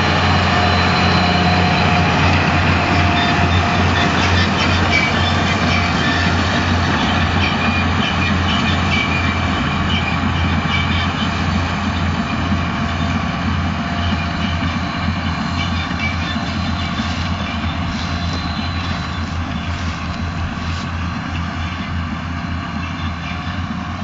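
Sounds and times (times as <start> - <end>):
tractor engine drone: 0.0 - 24.0.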